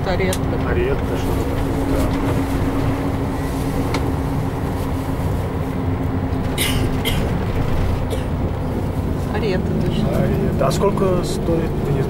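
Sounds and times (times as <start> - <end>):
coach engine and road noise: 0.0 - 12.0.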